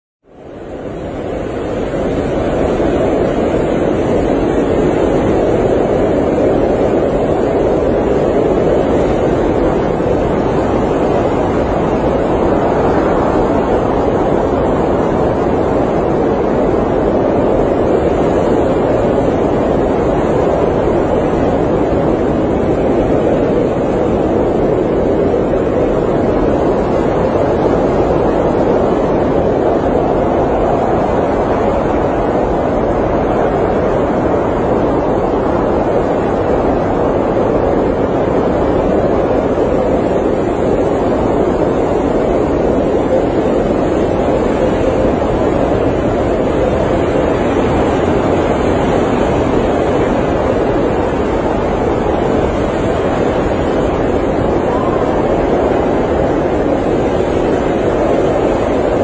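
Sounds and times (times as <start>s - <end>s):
blizzard wind blowing: 0.2s - 59.0s.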